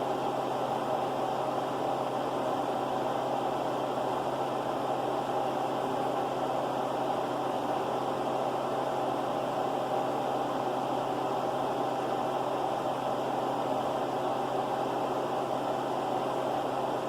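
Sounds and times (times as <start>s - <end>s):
steady mechanical hum with hiss: 0.0s - 17.0s.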